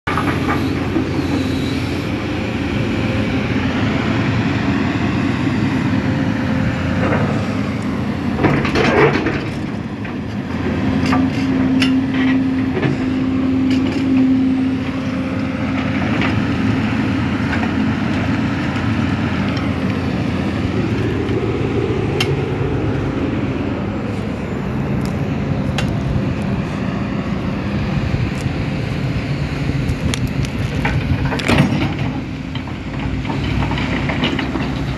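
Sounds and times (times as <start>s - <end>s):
excavator diesel engine under load: 0.0s - 34.9s
hydraulics whining: 0.1s - 34.9s.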